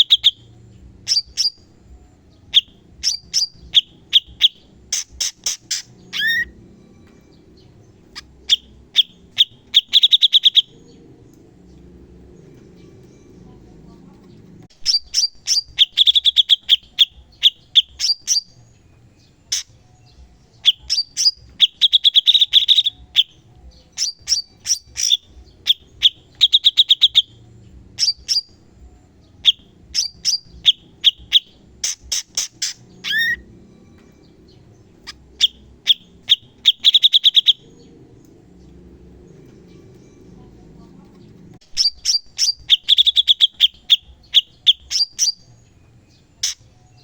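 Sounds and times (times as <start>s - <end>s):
songbird chattering song: 0.0s - 47.0s.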